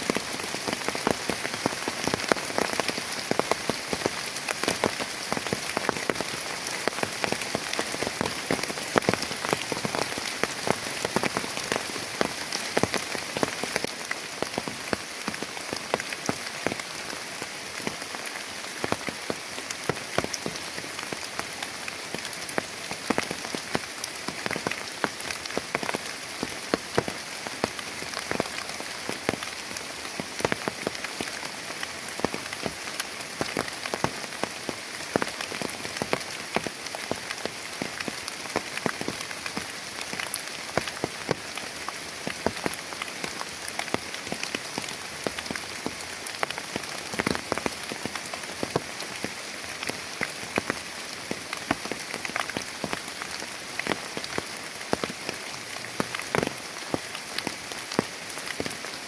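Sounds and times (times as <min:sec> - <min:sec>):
heavy rain hiss: 0:00.0 - 0:59.0
raindrops tapping a surface: 0:00.0 - 0:59.0.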